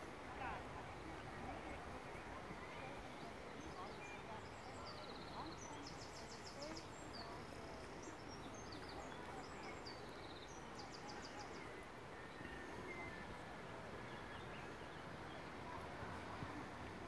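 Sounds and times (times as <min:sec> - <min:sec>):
songbirds chirping and trilling: 0:00.4 - 0:15.7.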